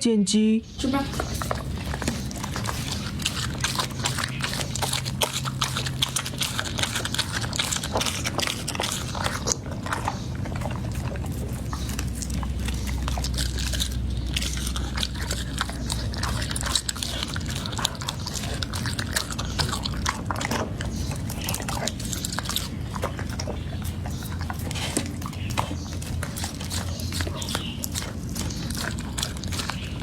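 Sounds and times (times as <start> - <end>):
dog chewing bones: 0.7 - 30.0.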